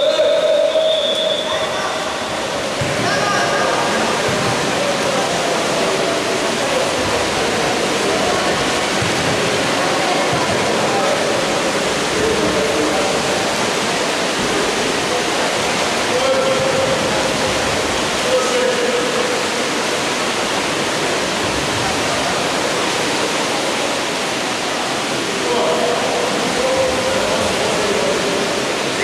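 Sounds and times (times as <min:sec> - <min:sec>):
crowd hubbub: 0:00.0 - 0:29.0
faint distant voices and shouts: 0:00.0 - 0:29.0
water splashing: 0:00.0 - 0:29.0.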